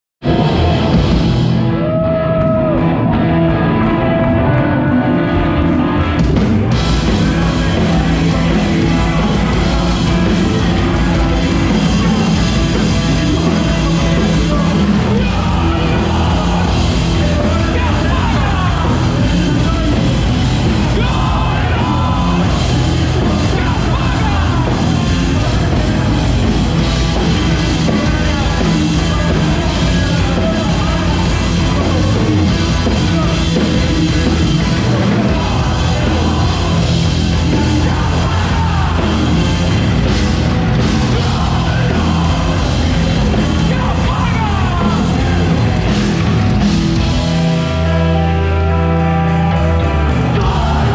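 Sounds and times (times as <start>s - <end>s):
rock band playing: 0.2s - 50.9s
yelled vocals: 0.2s - 50.9s.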